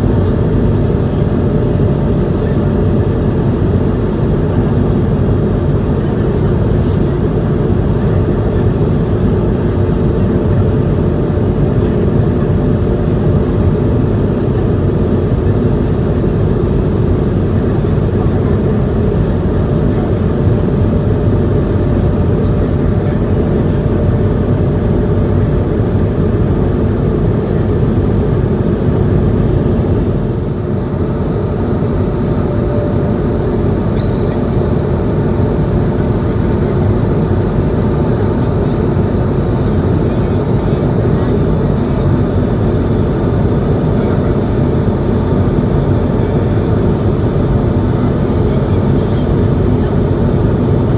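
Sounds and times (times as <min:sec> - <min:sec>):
airliner cabin engine noise: 0:00.0 - 0:50.9.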